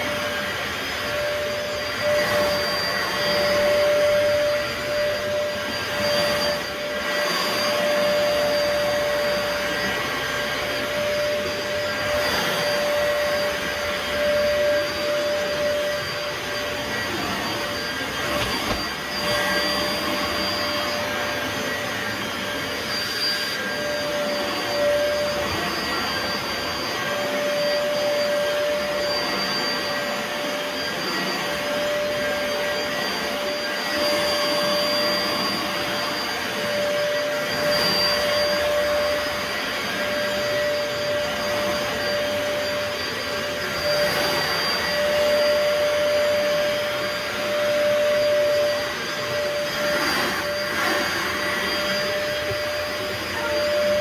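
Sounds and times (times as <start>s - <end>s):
carpet cleaner motor whine: 0.0s - 54.0s.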